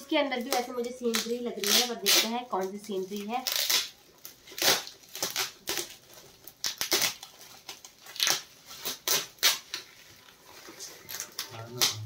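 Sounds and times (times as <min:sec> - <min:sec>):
gift-wrap paper crinkling and tearing: 0:00.2 - 0:12.0.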